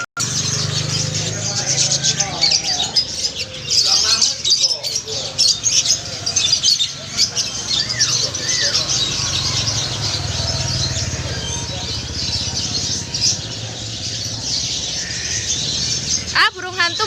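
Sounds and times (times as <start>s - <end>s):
engine running: 0.0s - 16.8s
caged birds chirping: 0.0s - 17.0s.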